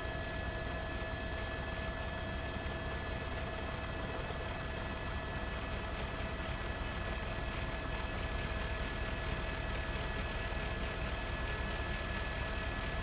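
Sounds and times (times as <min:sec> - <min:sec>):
helicopter engine and rotor: 0:00.0 - 0:13.0.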